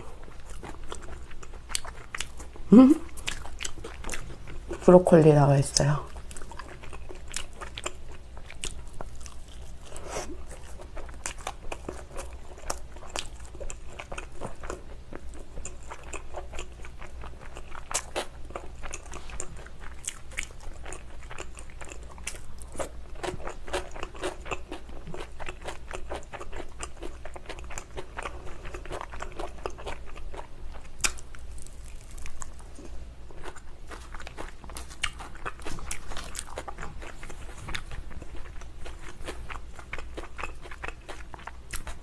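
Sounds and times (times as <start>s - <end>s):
person chewing and crunching pizza: 0.0s - 5.0s, 5.8s - 42.0s.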